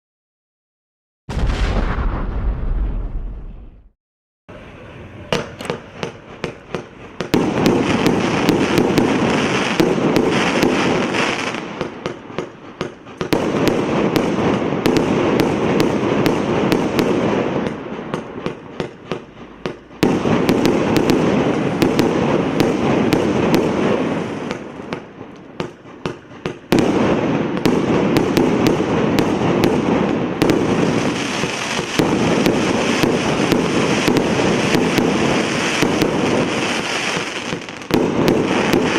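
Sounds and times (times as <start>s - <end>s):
fireworks sharp bangs: 1.3s - 3.9s, 4.5s - 38.9s
fireworks rapid crackling: 5.3s - 38.9s.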